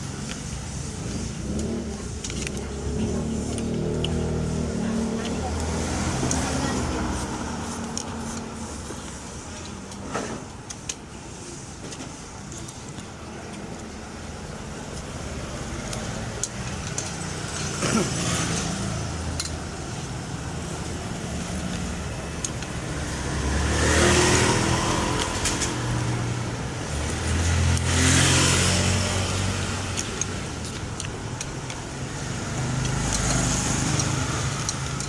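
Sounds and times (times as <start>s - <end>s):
vehicles passing by: 0.0s - 35.0s.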